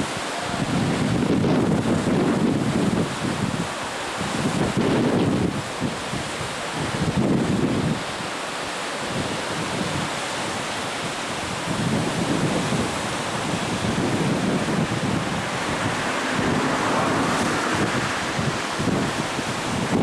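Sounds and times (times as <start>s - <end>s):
rushing water: 0.0s - 20.0s
wind buffeting microphone: 0.0s - 20.0s.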